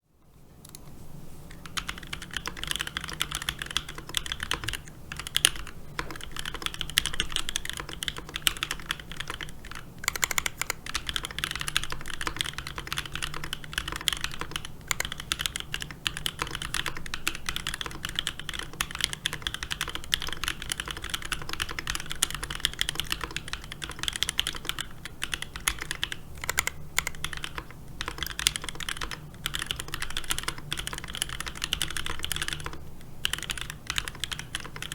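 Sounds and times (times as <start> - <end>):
fast typing on mechanical keyboard: 1.6 - 34.9.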